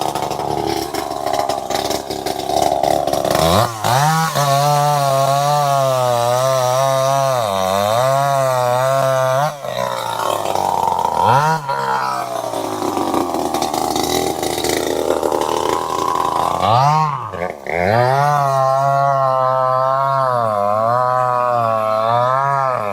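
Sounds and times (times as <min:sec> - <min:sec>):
chainsaw running at high revs: 0:00.0 - 0:22.9.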